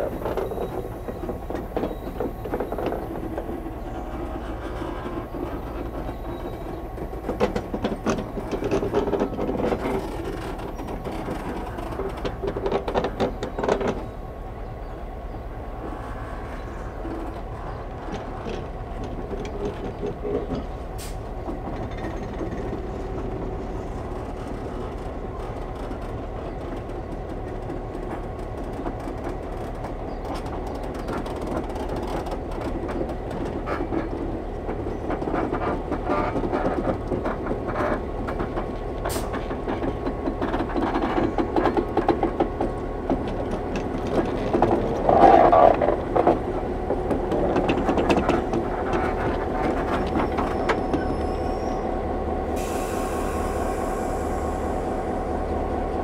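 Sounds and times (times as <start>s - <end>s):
diesel engine drone: 0.0s - 56.0s
wheels clanking over rails: 0.0s - 56.0s.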